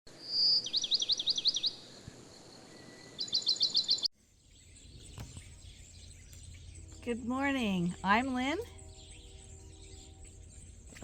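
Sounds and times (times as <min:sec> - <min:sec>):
faint outdoor background: 0:00.1 - 0:11.0
songbird singing: 0:00.1 - 0:11.0.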